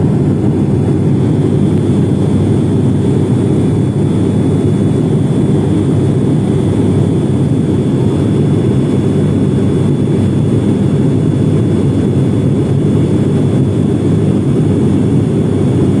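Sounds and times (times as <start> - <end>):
airflow: 0.0 - 15.9
engine and propeller drone: 0.0 - 16.0.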